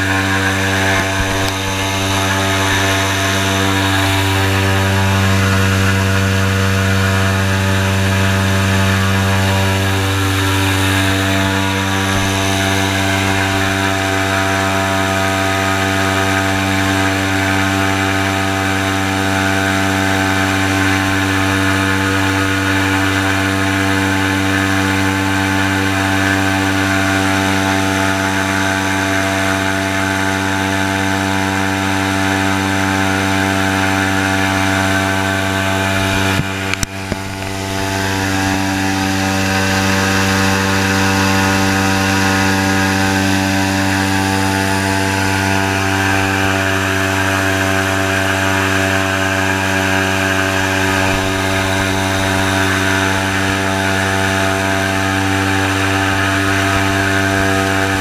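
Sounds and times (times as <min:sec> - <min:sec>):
airboat engine and propeller: 0:00.0 - 0:58.0.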